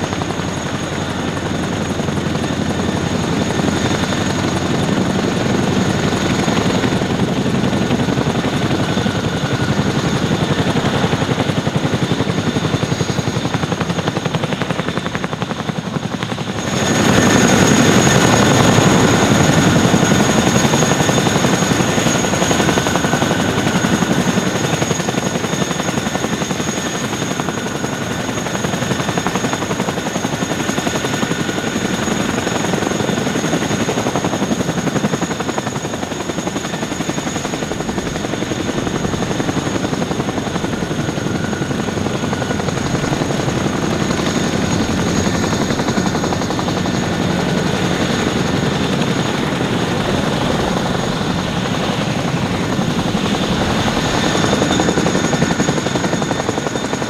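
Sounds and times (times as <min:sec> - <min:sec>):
helicopter rotor chop: 0:00.0 - 0:57.0
turbine engine whine: 0:00.0 - 0:57.0.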